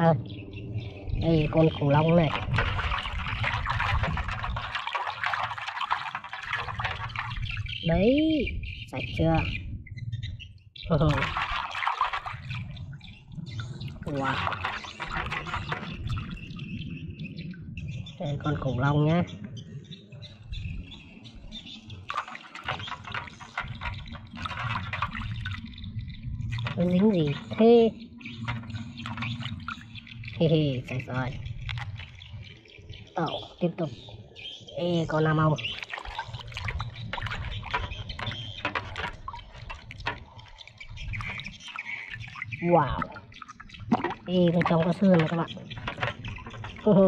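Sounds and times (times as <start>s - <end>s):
water sloshing and splashing: 0.0s - 47.0s.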